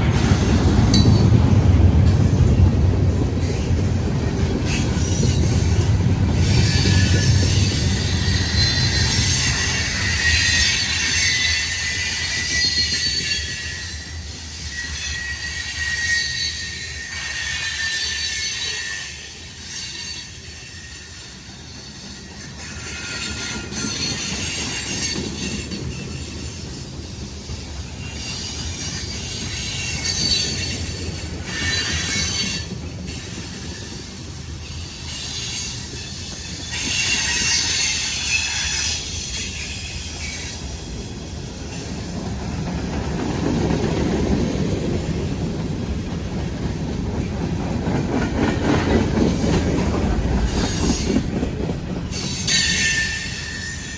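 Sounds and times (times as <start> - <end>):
low train rumble: 0.0 - 53.9
train wheels squealing on rail: 0.0 - 53.9.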